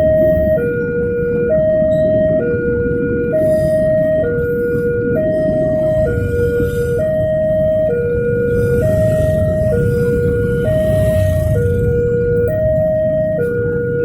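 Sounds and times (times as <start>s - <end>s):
two-tone crossing alarm: 0.0s - 14.0s.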